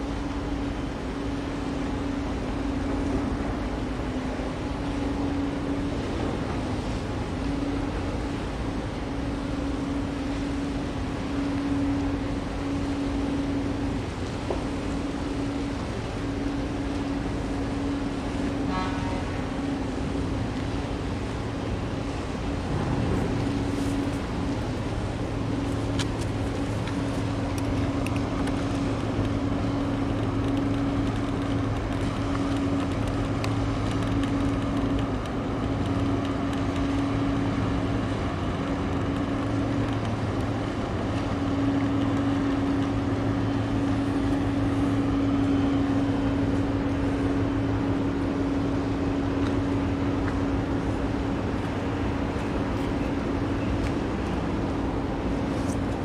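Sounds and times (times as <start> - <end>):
ship engines droning: 0.0 - 56.0.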